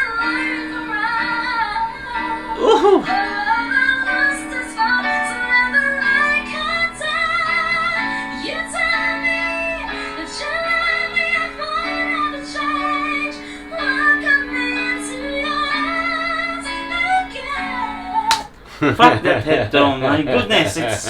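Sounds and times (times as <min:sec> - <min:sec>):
woman singing pop ballad: 0:00.0 - 0:18.4.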